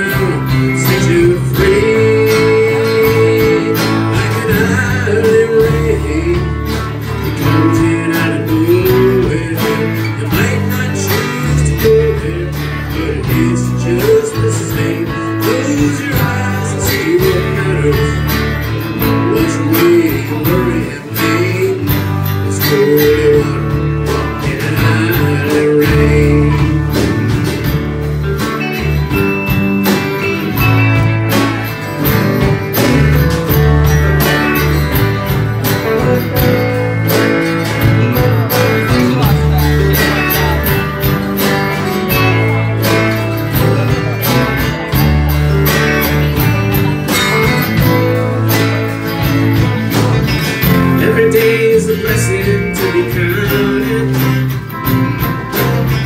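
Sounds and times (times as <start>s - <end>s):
live country band playing: 0.0s - 56.0s.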